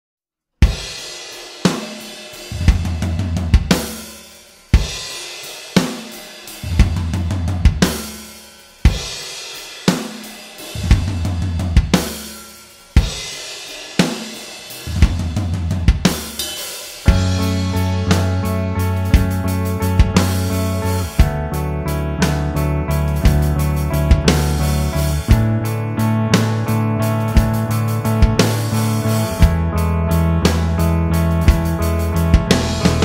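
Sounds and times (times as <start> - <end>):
drum kit playing: 0.6 - 33.0.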